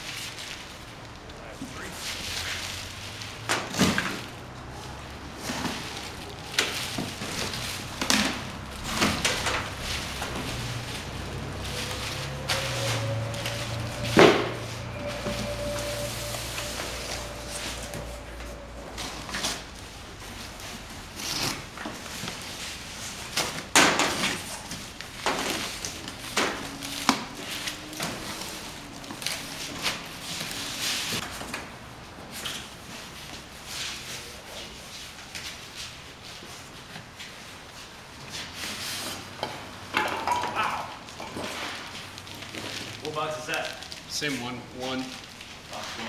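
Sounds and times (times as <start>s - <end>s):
plastic bags rustling: 0.0s - 46.0s.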